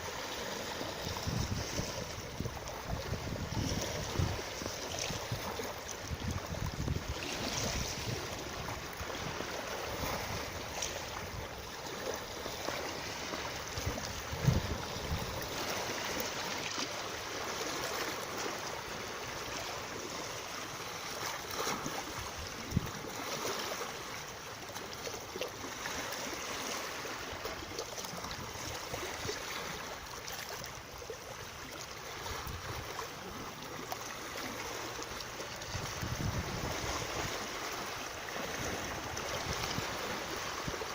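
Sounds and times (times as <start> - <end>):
rush of moving water: 0.0 - 40.9.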